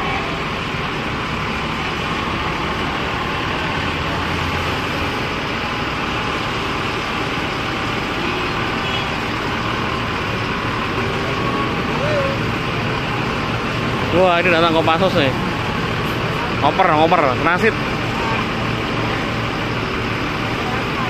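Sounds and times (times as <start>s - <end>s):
diesel bus engine running: 0.0s - 21.0s
road traffic noise: 0.0s - 21.0s.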